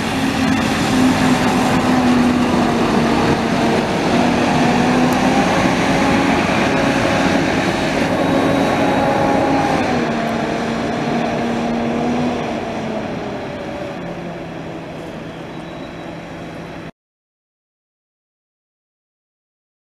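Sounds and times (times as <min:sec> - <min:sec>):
bus engine pulling away: 0:00.0 - 0:16.9.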